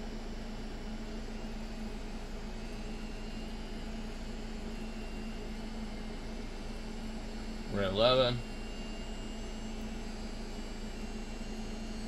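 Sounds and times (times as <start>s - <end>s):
tattoo machine motor buzz: 0.0s - 12.0s.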